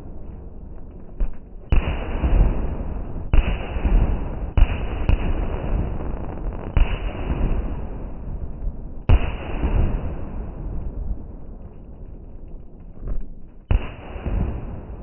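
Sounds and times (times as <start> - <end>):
rolling echo rumble: 0.0 - 15.0
firework booms: 0.8 - 11.5, 13.6 - 15.0.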